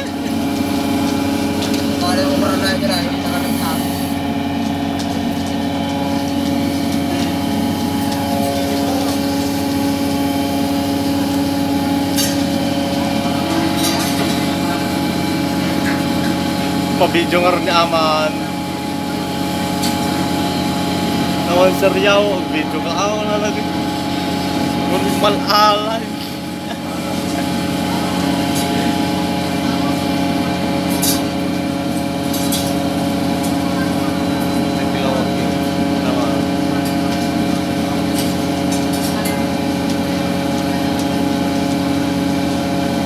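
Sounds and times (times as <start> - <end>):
machinery humming: 0.0 - 43.0.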